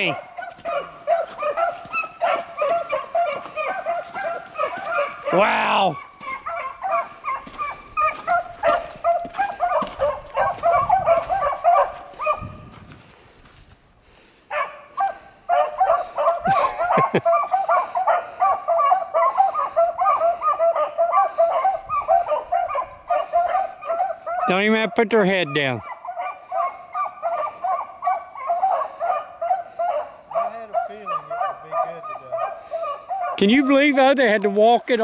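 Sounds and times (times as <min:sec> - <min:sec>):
pack of dogs yelping: 0:00.0 - 0:12.7, 0:14.4 - 0:35.0.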